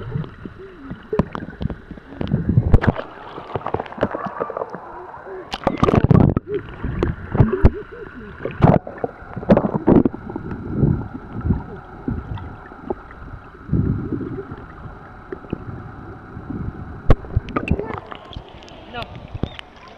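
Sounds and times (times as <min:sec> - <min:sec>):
faint steady whine: 0:00.0 - 0:19.9
water sloshing underwater: 0:00.0 - 0:19.9.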